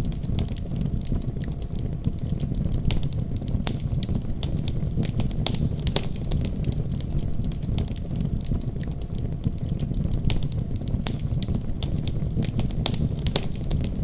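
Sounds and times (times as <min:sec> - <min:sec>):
fire crackling in fireplace: 0:00.0 - 0:14.0.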